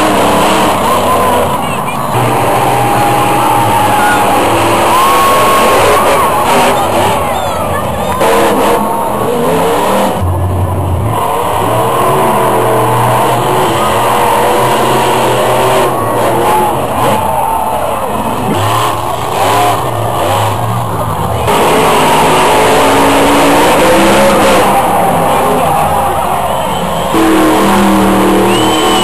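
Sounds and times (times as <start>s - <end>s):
truck engines revving: 0.0s - 29.0s.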